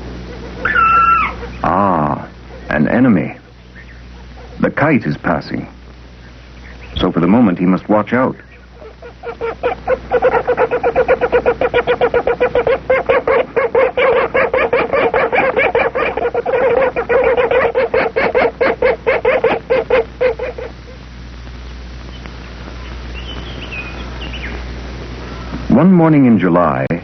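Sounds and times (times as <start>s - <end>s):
small birds chirping faintly: 0.0s - 26.9s
woodpecker repeated alarm calls: 0.2s - 5.1s, 6.2s - 21.0s, 22.1s - 24.7s.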